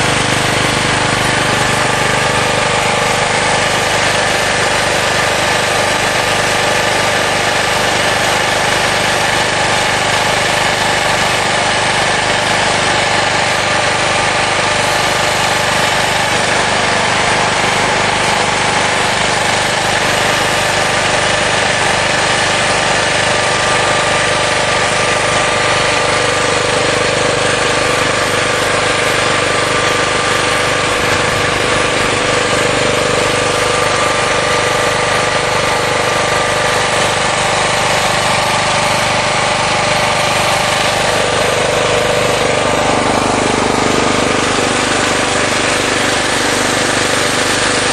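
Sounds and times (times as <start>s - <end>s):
generator engine running: 0.0s - 47.9s.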